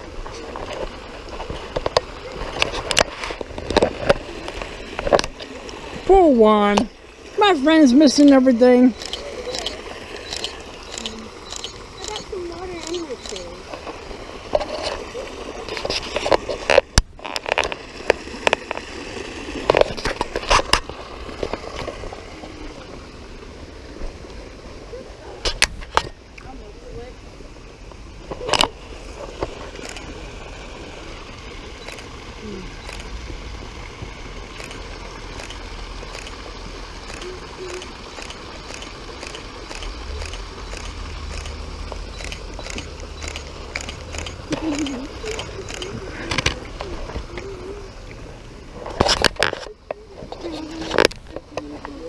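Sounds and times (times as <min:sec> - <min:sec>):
flowing creek water: 0:00.0 - 0:52.0.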